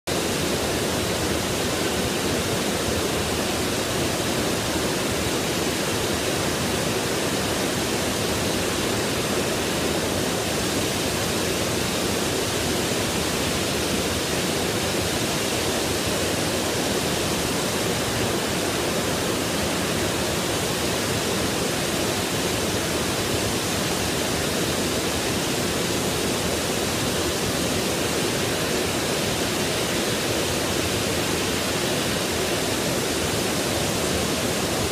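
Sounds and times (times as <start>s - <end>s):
water cascading and splashing: 0.1s - 34.9s.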